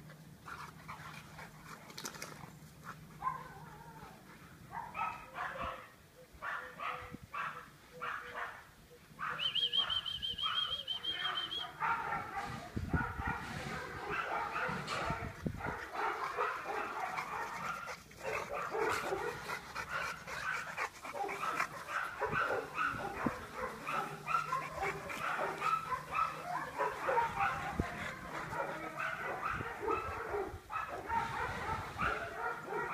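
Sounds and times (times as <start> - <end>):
dogs barking and yipping: 2.9 - 3.8, 4.7 - 32.9.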